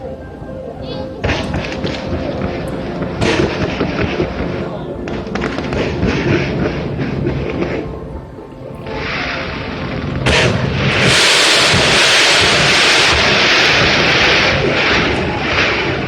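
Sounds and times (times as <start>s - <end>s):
fireworks bang: 1.2s - 7.9s, 8.9s - 16.0s
fireworks bursting: 1.2s - 8.0s, 8.8s - 16.0s.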